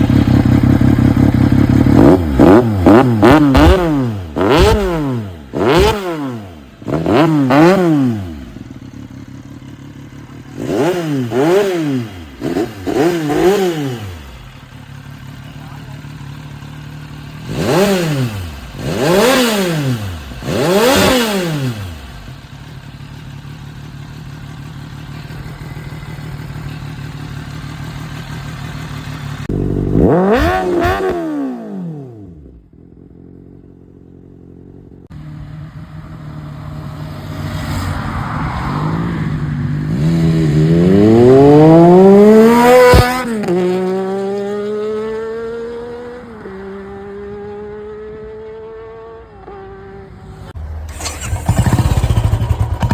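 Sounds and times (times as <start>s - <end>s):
motorcycle engine revving high: 0.0s - 52.9s
motorcycle engines passing: 0.0s - 52.9s.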